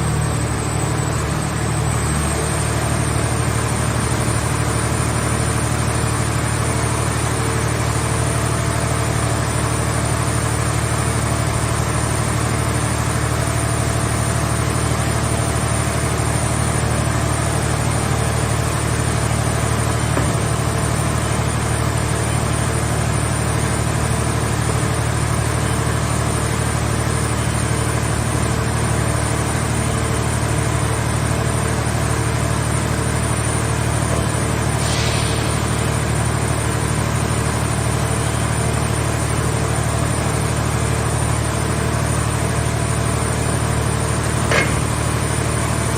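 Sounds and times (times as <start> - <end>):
engine idling with low hum: 0.0 - 45.9.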